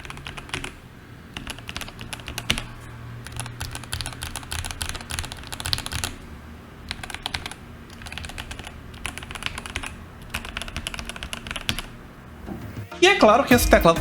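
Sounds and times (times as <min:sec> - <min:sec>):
mechanical keyboard typing: 0:00.0 - 0:06.2, 0:06.9 - 0:12.0.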